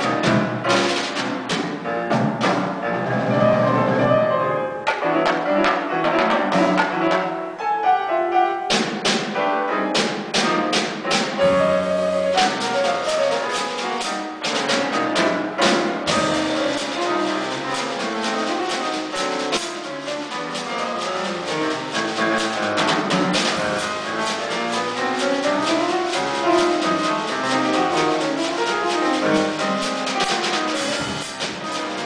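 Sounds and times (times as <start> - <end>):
percussion ensemble jazz: 0.0 - 32.0.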